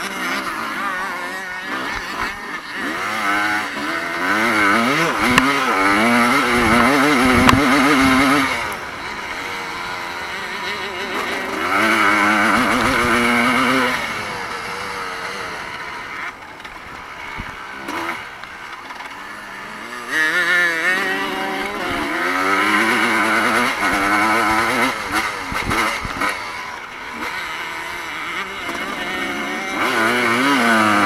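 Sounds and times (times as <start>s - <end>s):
motocross bike engines revving: 0.0s - 31.0s.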